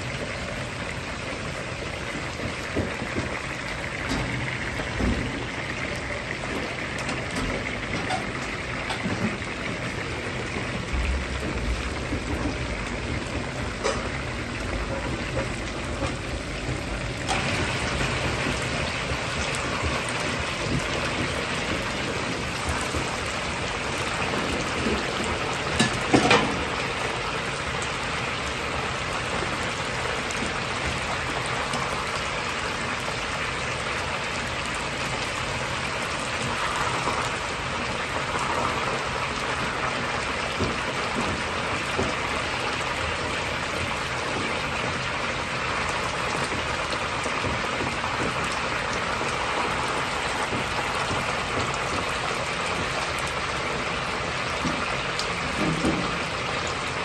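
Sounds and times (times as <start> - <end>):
chicken deep-frying in oil: 0.0 - 57.0.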